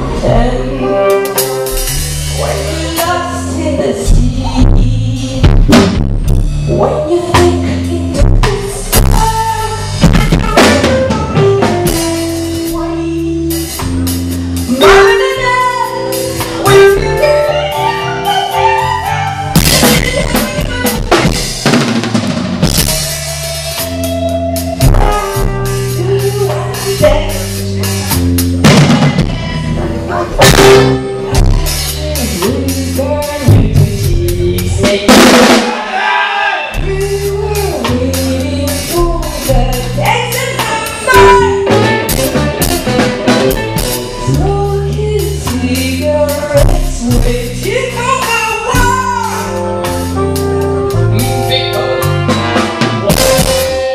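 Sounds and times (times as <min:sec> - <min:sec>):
bass line: 0:00.0 - 0:35.8, 0:36.7 - 0:53.9
drum kit beat: 0:00.0 - 0:53.9.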